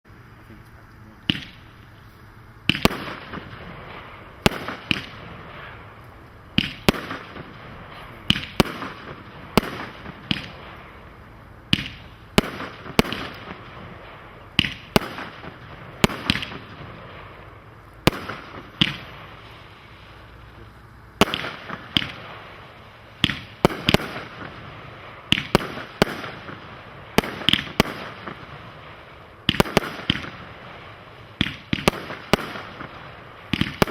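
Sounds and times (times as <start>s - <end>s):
firework hiss: 0.2s - 33.9s
firework bangs: 1.2s - 2.0s, 2.6s - 33.9s.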